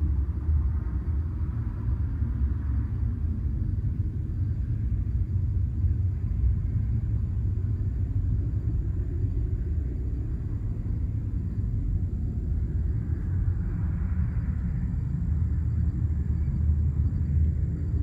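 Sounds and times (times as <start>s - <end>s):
low rumbling drone from sky: 0.0s - 18.0s.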